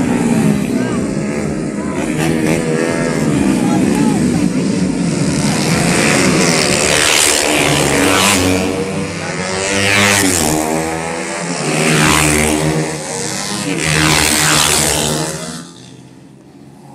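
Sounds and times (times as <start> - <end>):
racing motorcycles passing: 0.0 - 16.9.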